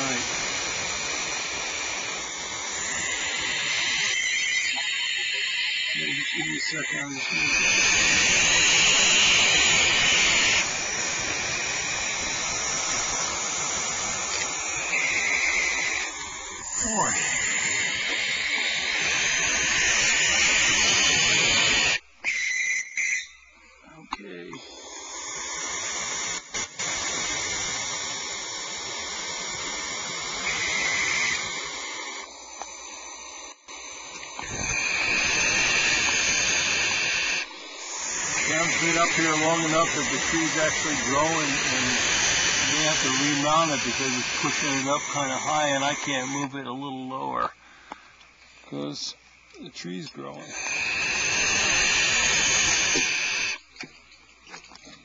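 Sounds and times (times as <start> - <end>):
owl hissing screech: 0.0 - 23.5, 24.4 - 48.0, 49.8 - 53.7
steady hiss: 0.0 - 55.0.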